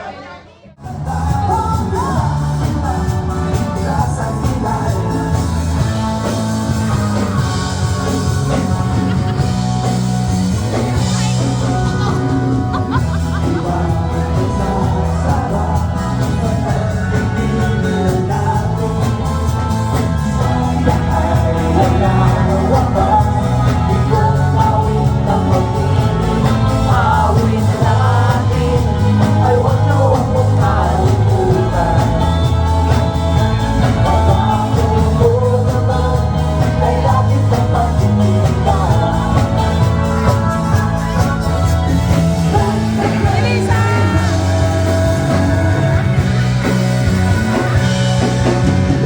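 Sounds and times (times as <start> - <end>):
person singing: 0.0 - 49.0
heavy bass line: 0.7 - 49.0
live band music: 0.8 - 49.0.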